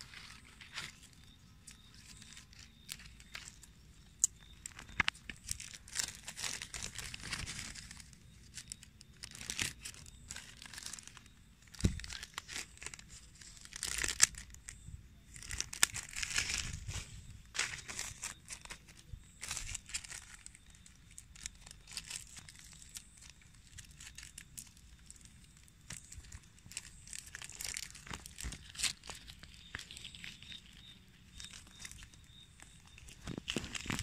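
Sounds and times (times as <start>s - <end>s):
plastic tape crinkling: 0.0s - 34.0s.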